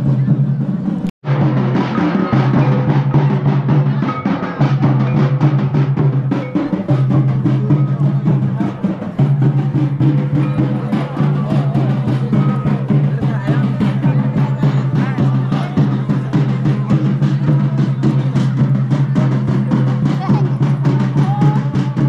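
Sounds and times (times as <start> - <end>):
fast busy drumming: 0.0 - 22.0.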